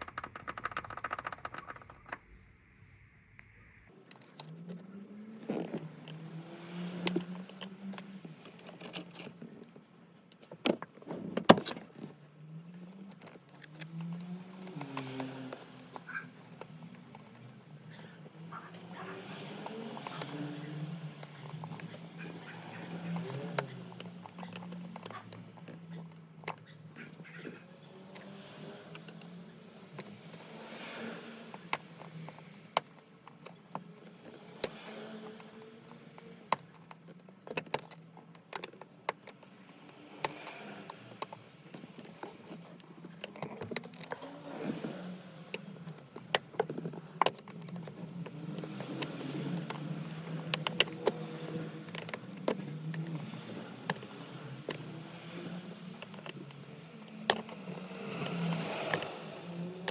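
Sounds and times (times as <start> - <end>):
plastic trim clicks and rattles: 0.0 - 2.2, 4.0 - 59.9.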